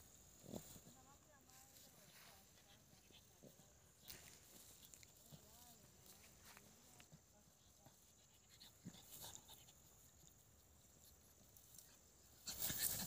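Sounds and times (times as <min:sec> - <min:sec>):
dog chewing and rolling in dry grass: 0:00.0 - 0:13.0.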